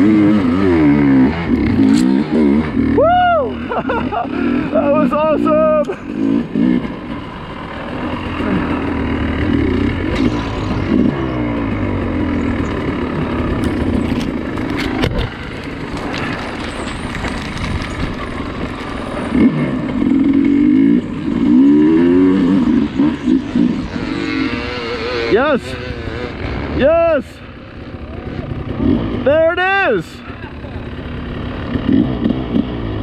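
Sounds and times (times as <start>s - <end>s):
dirt bike engine revving: 0.0s - 29.6s, 30.2s - 33.0s.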